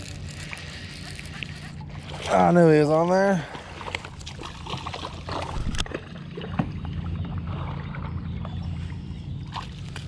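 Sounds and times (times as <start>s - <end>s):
low hum: 0.0s - 10.0s
water splashing and sloshing: 0.0s - 10.0s.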